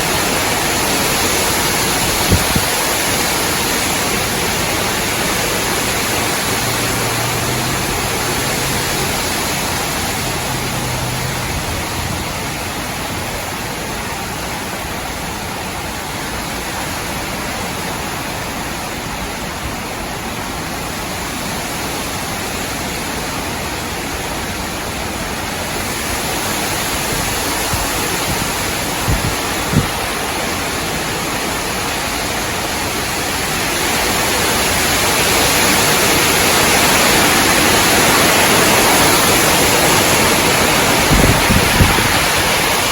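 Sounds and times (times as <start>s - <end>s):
wind rushing through trees: 0.0s - 42.9s.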